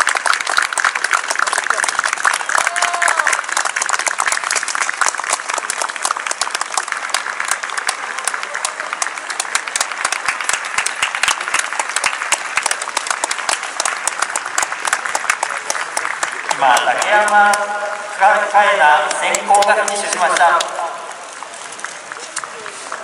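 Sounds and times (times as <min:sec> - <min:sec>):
sharp close claps: 0:00.0 - 0:18.1, 0:19.0 - 0:20.8
spectators applauding: 0:00.0 - 0:23.0.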